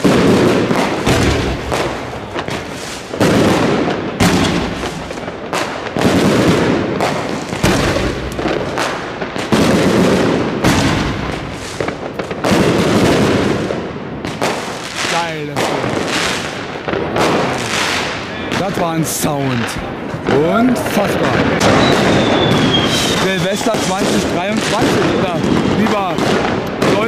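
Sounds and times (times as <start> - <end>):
fireworks booming: 0.0 - 27.0
fireworks cracking and crackling: 0.0 - 27.0.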